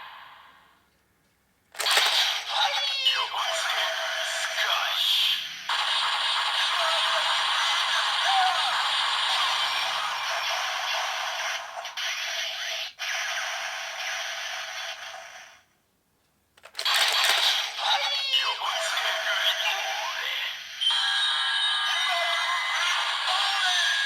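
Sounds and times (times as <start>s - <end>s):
toy belt speaker music and effects: 1.8s - 15.5s, 16.6s - 24.0s.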